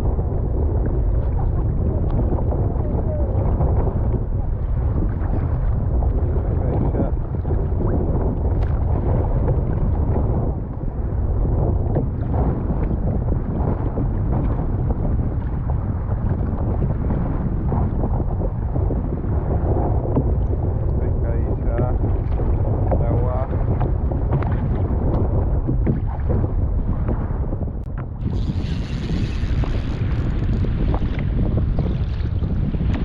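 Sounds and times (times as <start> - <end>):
sea water moving around kayak: 0.0 - 33.0
wind rumbling on microphone: 0.0 - 33.0.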